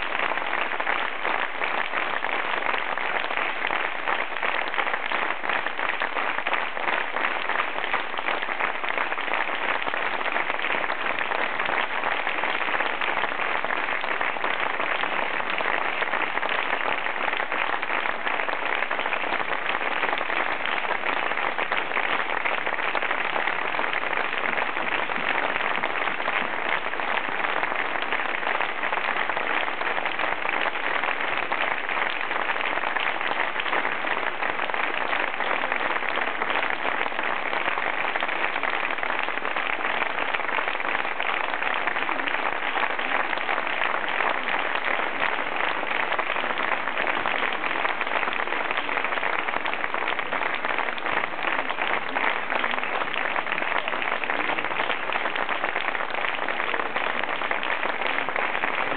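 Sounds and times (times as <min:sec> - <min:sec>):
audience applauding: 0:00.0 - 0:58.9.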